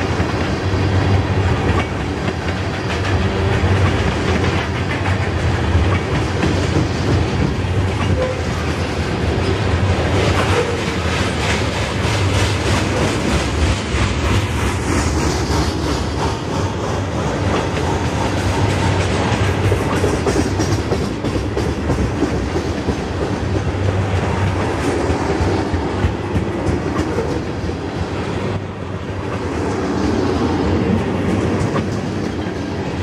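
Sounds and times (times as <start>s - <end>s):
clickety-clack of wheels over track: 0.0s - 33.0s
train wheels rumbling on rail: 0.0s - 33.0s.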